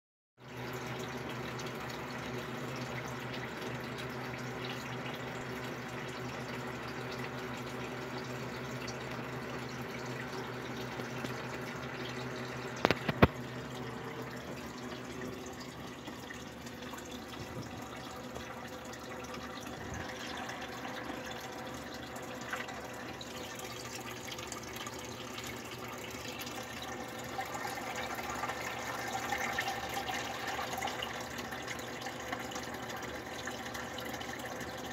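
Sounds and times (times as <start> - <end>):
water trickling: 0.4 - 34.9
filter humming: 0.5 - 34.9.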